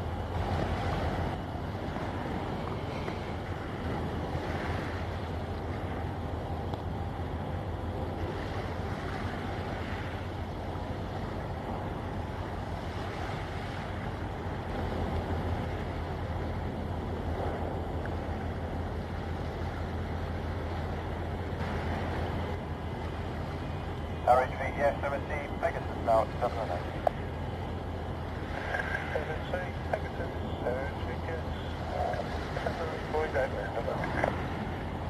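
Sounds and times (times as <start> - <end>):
ship engine drone: 0.0 - 35.0.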